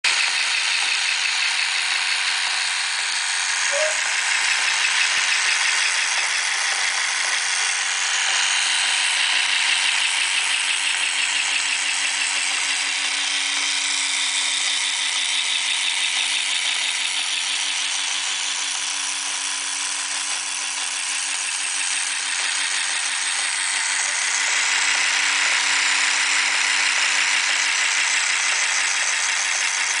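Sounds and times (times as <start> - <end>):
motor hum: 0.1 - 30.0
motorized toy rattling: 0.1 - 30.0.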